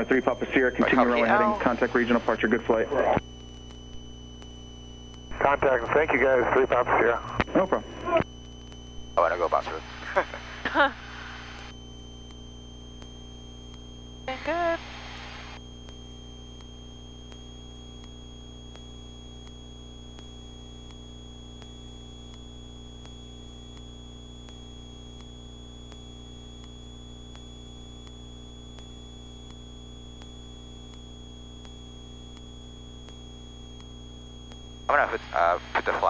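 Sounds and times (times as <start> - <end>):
high electrical whine: 0.0 - 36.0.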